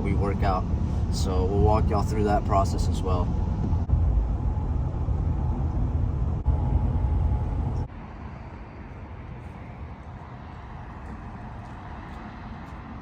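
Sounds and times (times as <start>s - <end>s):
steady hum: 0.0s - 11.7s
vehicle driving rumble: 0.0s - 13.0s.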